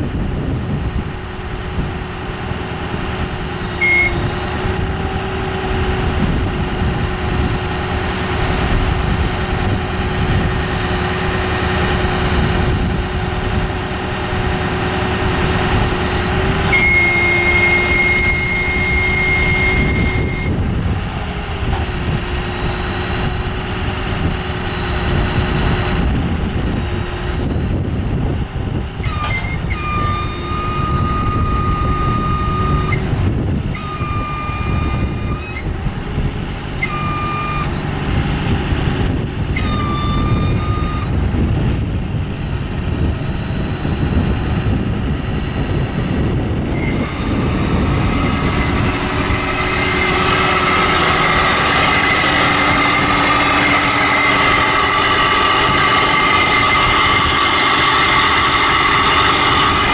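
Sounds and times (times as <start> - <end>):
diesel engine running: 0.0 - 59.9
hydraulic whine: 0.0 - 59.9.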